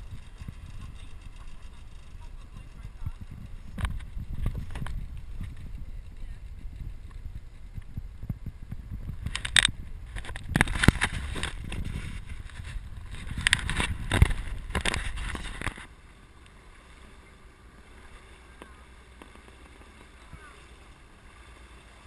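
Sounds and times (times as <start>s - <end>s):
low rumble: 0.0s - 22.0s
sea water sloshing and splashing: 0.0s - 22.0s.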